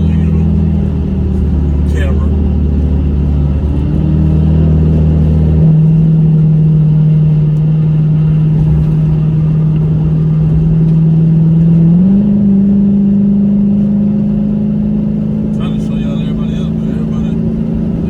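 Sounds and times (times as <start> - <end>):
car engine running: 0.0 - 18.0
deep low rumble: 0.0 - 18.0.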